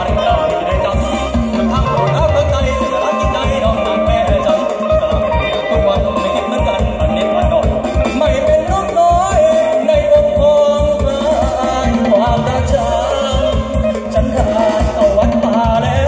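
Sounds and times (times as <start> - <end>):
heavy pounding bass beat: 0.0 - 16.0.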